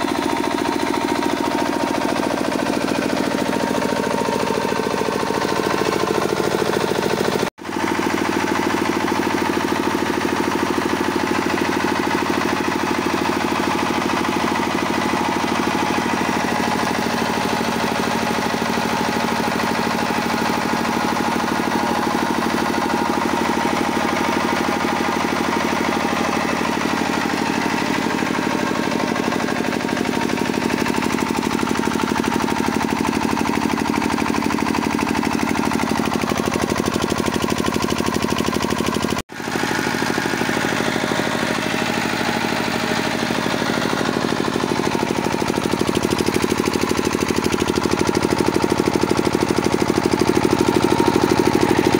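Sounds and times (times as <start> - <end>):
diesel generator engine running: 0.0 - 51.9.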